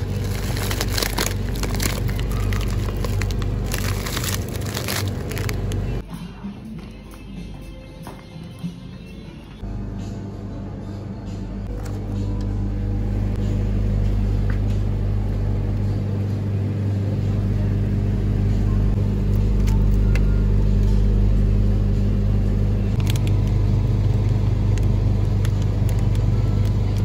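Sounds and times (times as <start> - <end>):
freezers humming: 0.0 - 27.0.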